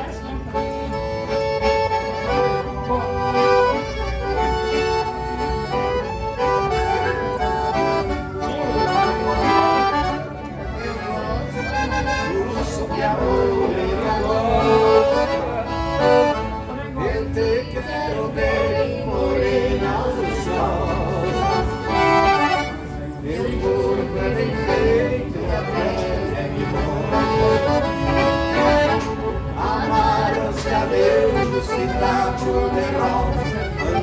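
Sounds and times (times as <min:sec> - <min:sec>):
accordions playing folk tune: 0:00.0 - 0:34.0.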